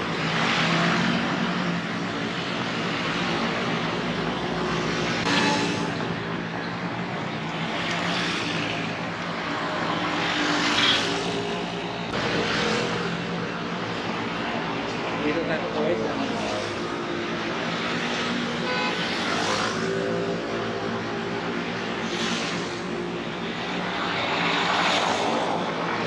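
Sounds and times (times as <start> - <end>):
cars and scooters passing: 0.0 - 26.0.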